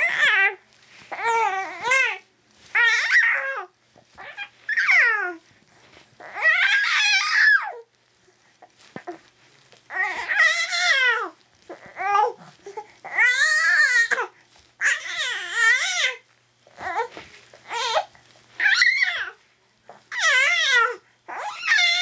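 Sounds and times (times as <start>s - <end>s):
infant crying: 0.0s - 5.4s, 6.2s - 7.9s, 9.9s - 16.2s, 16.8s - 19.4s, 20.1s - 22.0s.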